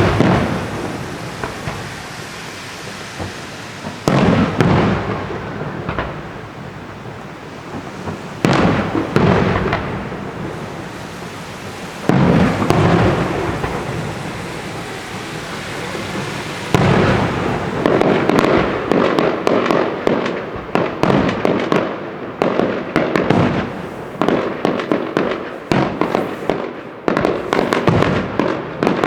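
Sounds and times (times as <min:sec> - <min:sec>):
firework bangs with rolling rumble: 0:00.0 - 0:29.0
hissing crackle of firework stars: 0:00.0 - 0:29.0.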